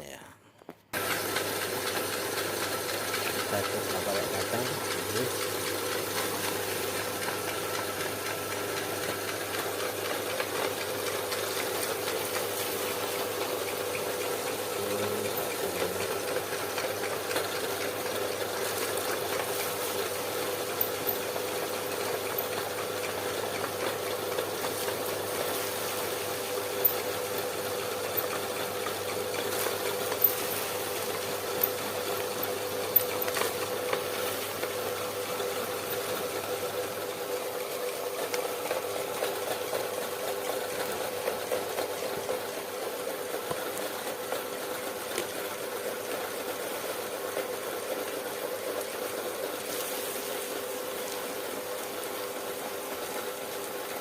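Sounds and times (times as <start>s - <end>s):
meat grinder motor humming: 1.0s - 54.0s.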